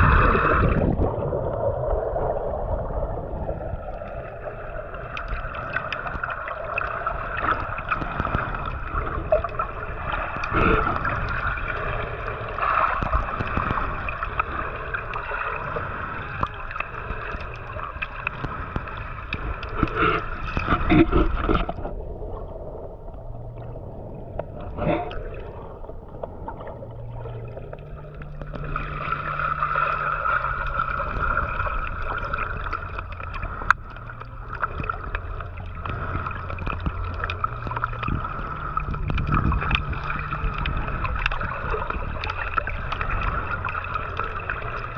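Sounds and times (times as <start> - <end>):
muffled underwater water wash: 0.0 - 44.9.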